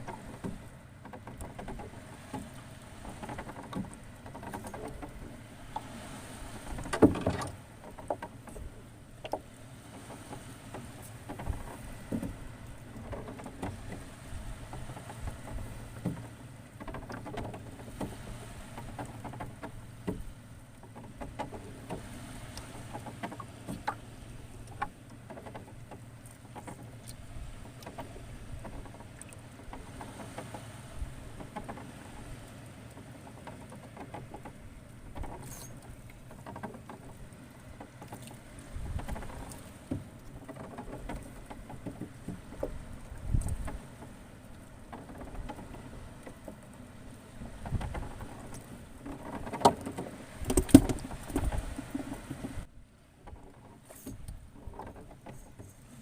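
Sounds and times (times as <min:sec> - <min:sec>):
small clicks and splashes: 0:00.0 - 0:05.9, 0:06.6 - 0:56.0
seawater lapping and sloshing: 0:00.0 - 0:56.0.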